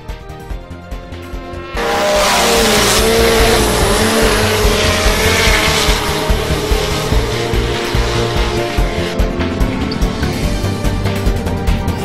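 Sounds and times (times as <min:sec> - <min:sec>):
background music with steady beat: 0:00.0 - 0:12.0
snowmobile engine revving high: 0:00.7 - 0:11.9.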